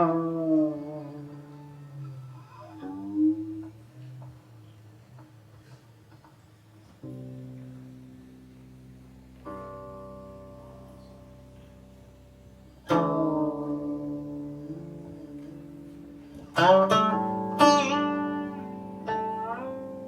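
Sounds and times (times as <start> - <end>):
zither plucked notes: 0.0 - 20.0.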